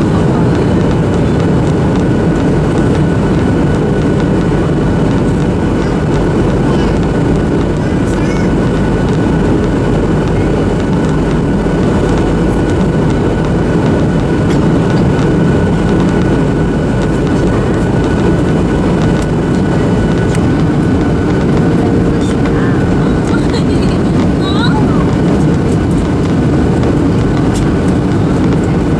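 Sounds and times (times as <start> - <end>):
faint steady whine: 0.0 - 28.9
jet engine and airflow rush: 0.0 - 28.9.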